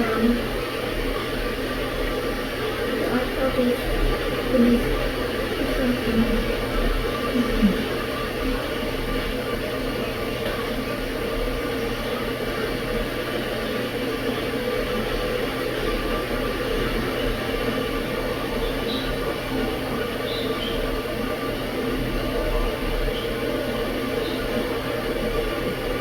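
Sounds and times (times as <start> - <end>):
tea kettle rushing hum: 0.0 - 26.0.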